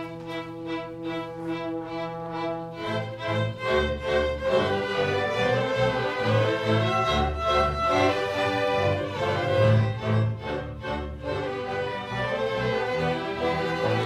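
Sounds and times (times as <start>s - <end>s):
orchestra playing: 0.0s - 14.0s.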